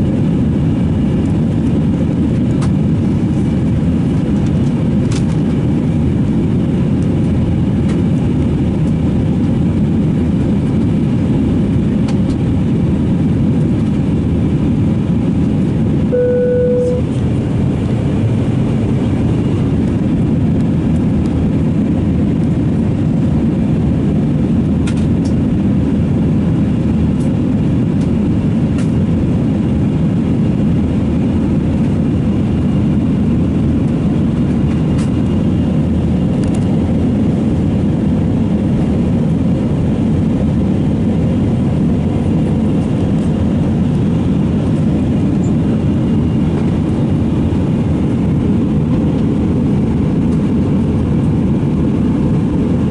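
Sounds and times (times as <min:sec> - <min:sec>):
jet engine drone: 0:00.0 - 0:52.9.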